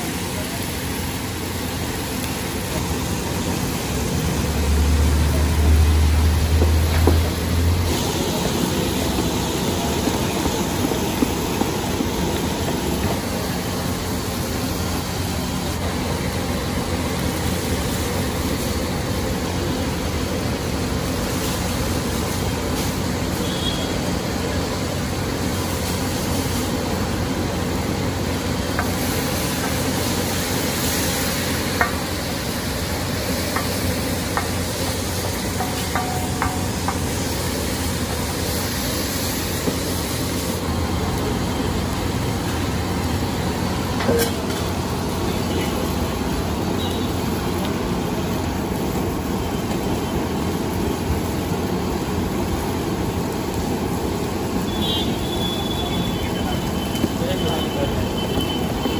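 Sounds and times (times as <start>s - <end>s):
onions and tomatoes sizzling: 0.0s - 58.9s.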